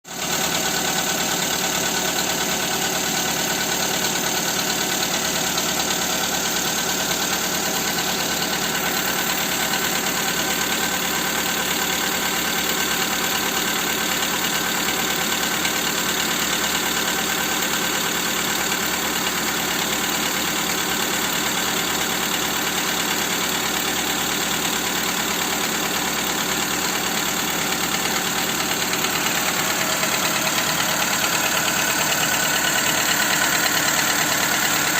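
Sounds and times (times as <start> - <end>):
car engine running with knock: 0.1 - 34.9.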